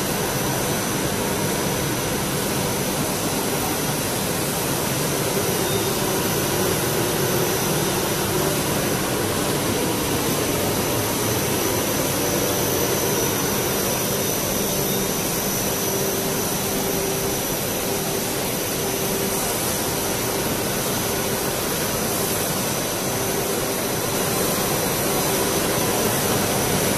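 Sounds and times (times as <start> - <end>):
faint high whine: 0.0 - 26.9
machine blowers and motor hum: 0.0 - 26.9.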